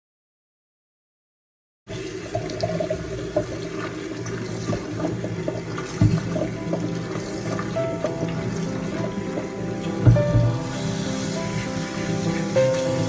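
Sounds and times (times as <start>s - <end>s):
water running from a tap: 1.9s - 13.0s.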